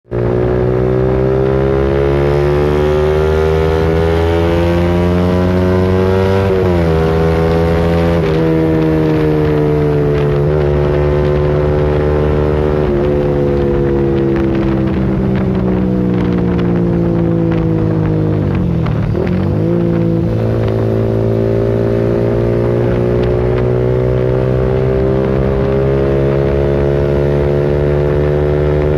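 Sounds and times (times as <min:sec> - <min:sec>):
motorcycle engine revving: 0:00.1 - 0:28.9.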